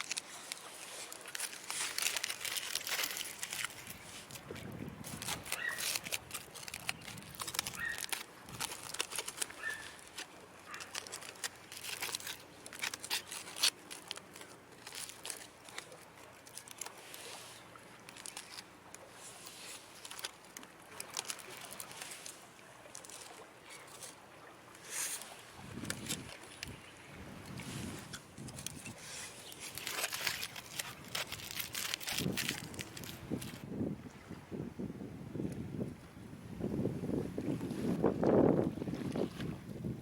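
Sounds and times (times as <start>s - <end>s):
clicking and crinkling handling noises: 0.0s - 33.7s.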